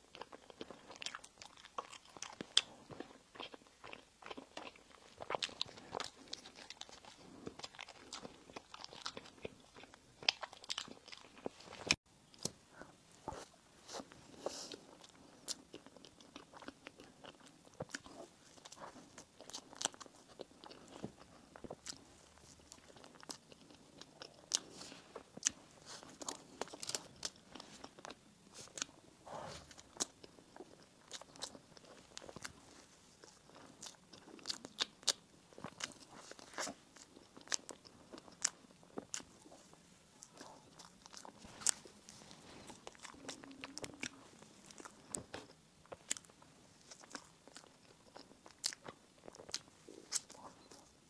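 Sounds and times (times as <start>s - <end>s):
chewing bread: 0.0s - 51.0s.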